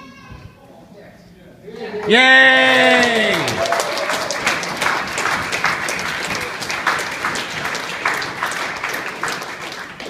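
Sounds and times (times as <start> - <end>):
crowd applauding: 1.9 - 10.0.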